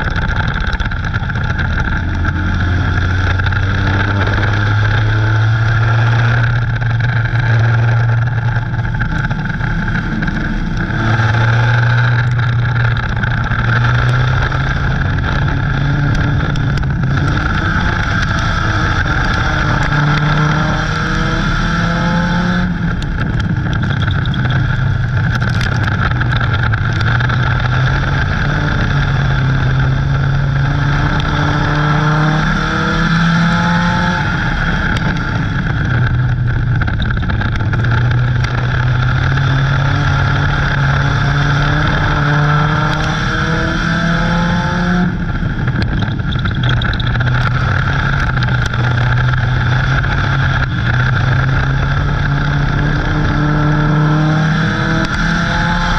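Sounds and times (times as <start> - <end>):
race car engine revving: 0.0 - 55.9
wind and road noise: 0.0 - 55.9.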